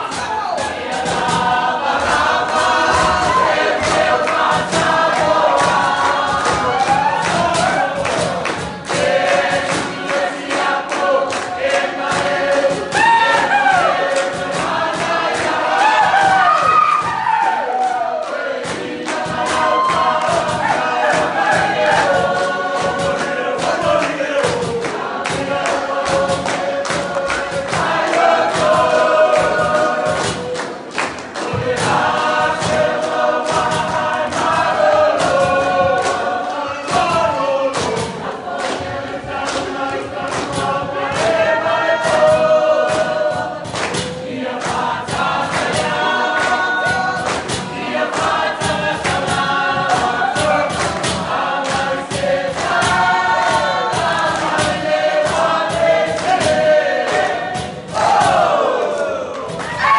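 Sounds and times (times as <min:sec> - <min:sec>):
sharp percussive hits: 0:00.0 - 0:59.8
group singing in chorus: 0:00.0 - 0:59.9.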